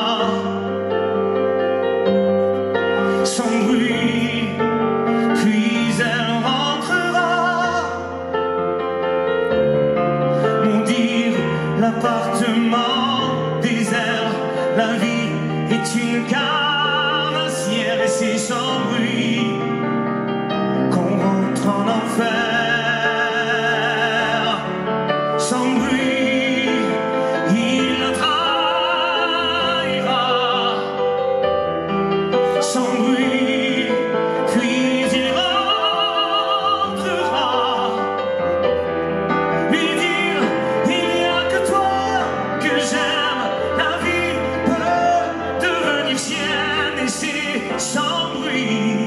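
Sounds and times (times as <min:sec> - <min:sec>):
man singing with vibrato: 0:00.0 - 0:01.1, 0:02.8 - 0:08.8, 0:10.3 - 0:31.6, 0:32.2 - 0:49.0.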